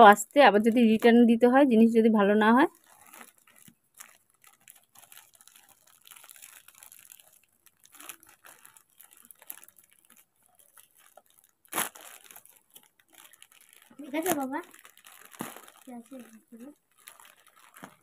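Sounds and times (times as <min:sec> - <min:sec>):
plastic mailer bag crinkling: 0:02.6 - 0:18.0.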